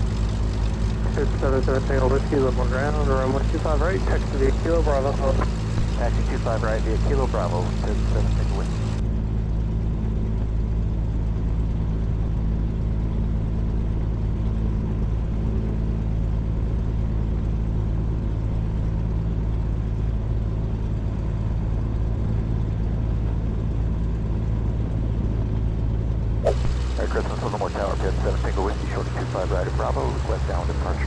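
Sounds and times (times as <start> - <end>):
propeller plane engine droning: 0.0 - 31.0.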